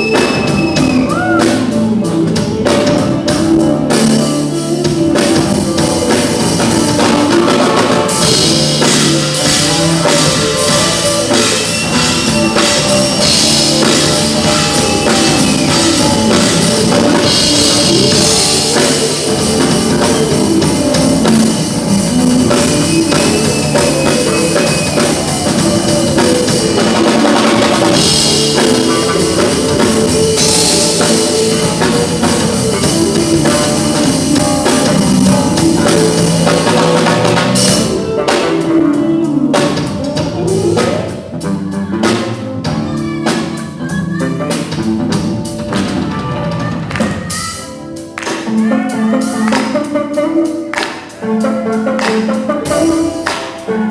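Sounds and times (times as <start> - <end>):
rock band music: 0.0 - 53.9.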